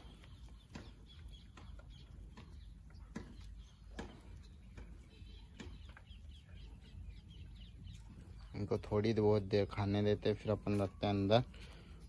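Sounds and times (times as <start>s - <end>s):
faint bird chirps: 0.0s - 12.0s
pigeons pecking grain: 0.0s - 12.0s.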